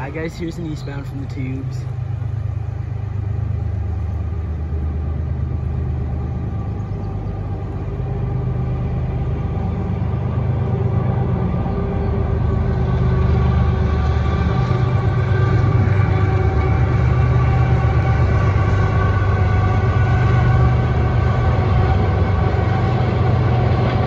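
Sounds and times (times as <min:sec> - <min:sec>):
diesel locomotive engines droning: 0:00.0 - 0:24.0.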